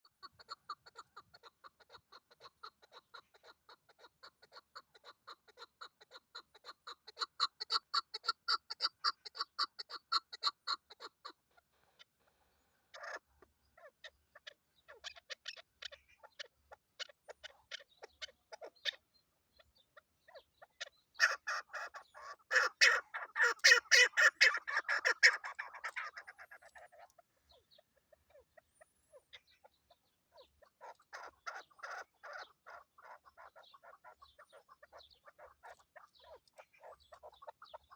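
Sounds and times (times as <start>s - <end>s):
partridge clucking calls: 0.0s - 37.9s.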